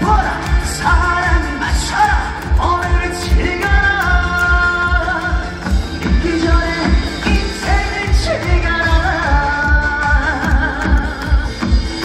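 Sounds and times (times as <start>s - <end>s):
heavy bass drum beat: 0.0s - 12.0s
live music over speakers: 0.0s - 12.0s.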